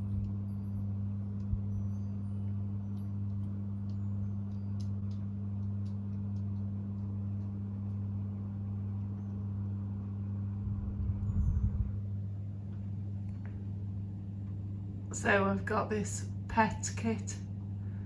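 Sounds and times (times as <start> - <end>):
low fluttering rumble: 0.0 - 16.5.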